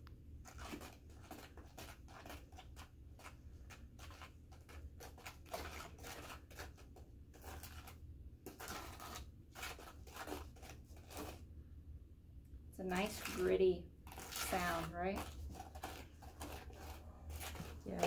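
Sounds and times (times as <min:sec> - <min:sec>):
spoon scraping gritty mix in bowl: 0:00.4 - 0:11.5, 0:12.8 - 0:18.0.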